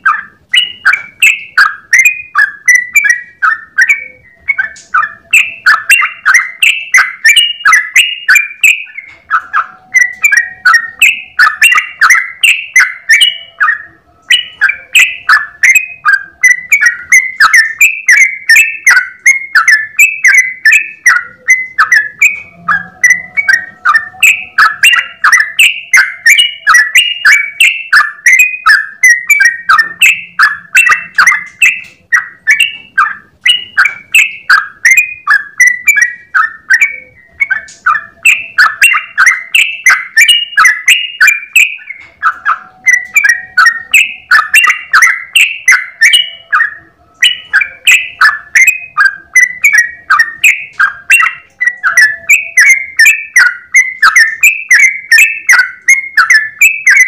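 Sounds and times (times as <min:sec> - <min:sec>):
bird singing bubbly chattering notes: 0:00.0 - 0:57.0.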